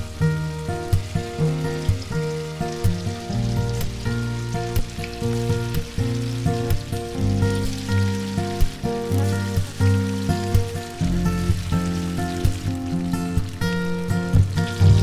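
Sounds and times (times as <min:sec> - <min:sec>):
instrumental background music: 0:00.0 - 0:15.0
tofu sizzling in hot oil: 0:00.0 - 0:15.0.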